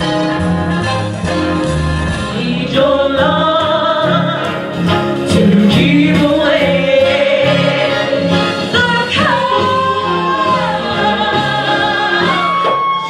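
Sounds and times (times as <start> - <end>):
person singing with vibrato: 2.2 - 13.0.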